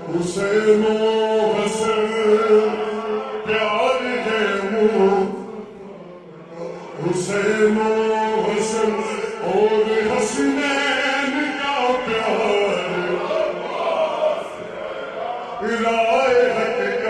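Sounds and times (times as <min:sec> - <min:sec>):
man chanting with reverb: 0:00.0 - 0:17.0.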